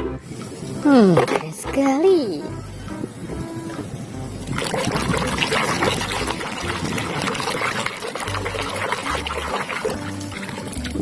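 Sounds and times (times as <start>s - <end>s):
water pouring and splashing: 0.3s - 11.0s.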